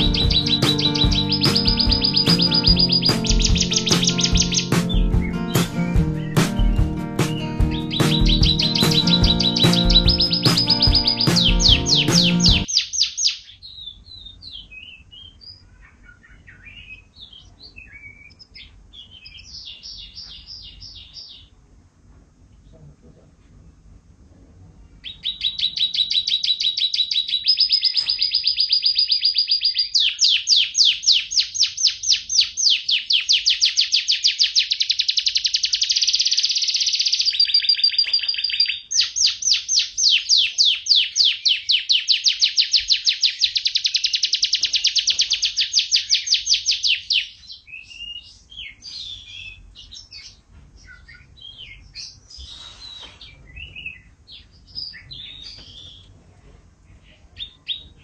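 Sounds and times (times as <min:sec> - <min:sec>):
canary singing trills: 0:00.0 - 0:21.6, 0:24.9 - 0:56.1
canary chirps: 0:00.0 - 0:21.8, 0:24.8 - 0:56.1, 0:56.8 - 0:58.0.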